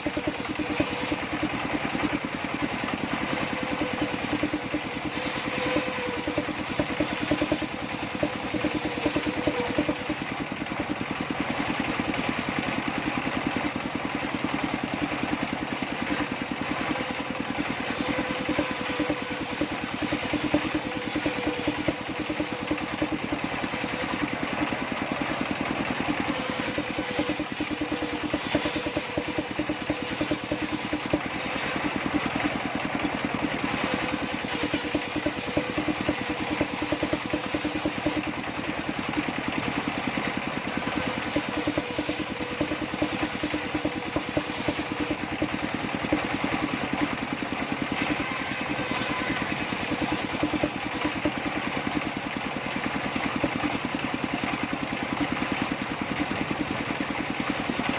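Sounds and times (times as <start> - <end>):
engine-driven table saw running: 0.0 - 57.9.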